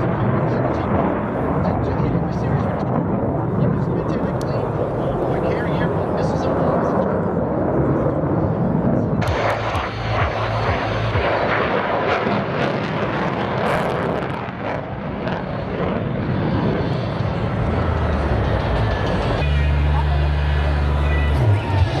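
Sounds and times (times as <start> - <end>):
jet engine with afterburner: 0.0 - 22.0.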